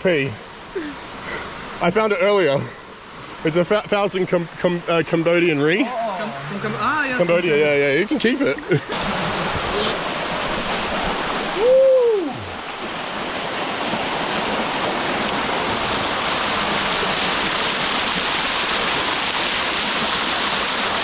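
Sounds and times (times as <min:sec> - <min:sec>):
waterfall rushing into pool: 0:00.0 - 0:21.0.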